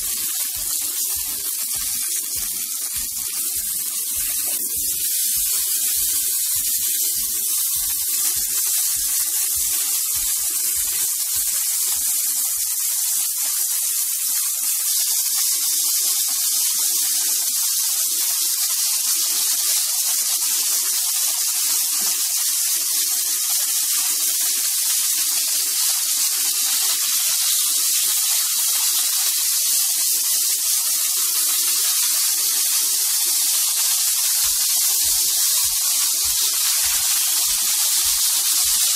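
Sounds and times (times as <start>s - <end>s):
meat sizzling in a wok: 0.0s - 38.9s.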